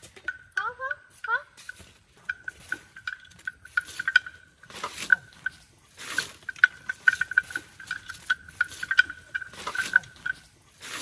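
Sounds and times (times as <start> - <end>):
bell clinking: 0.2 - 11.0.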